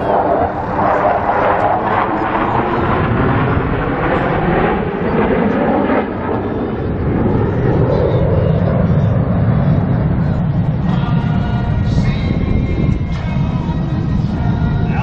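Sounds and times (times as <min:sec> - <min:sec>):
jets flying over: 0:00.0 - 0:15.0.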